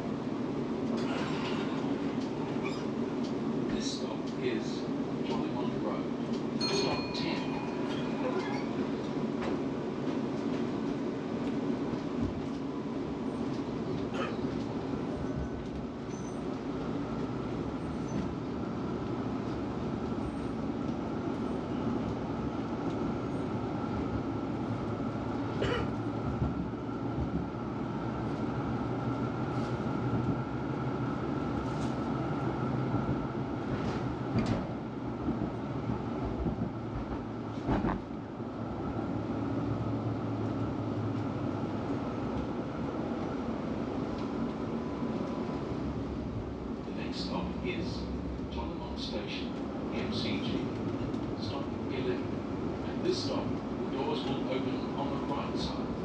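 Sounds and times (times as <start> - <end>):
tram rumbling on rails: 0.0 - 56.0.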